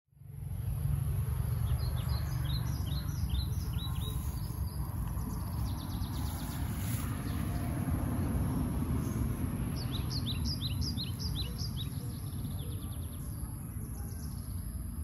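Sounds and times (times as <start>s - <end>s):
small birds chirping: 0.6s - 15.0s.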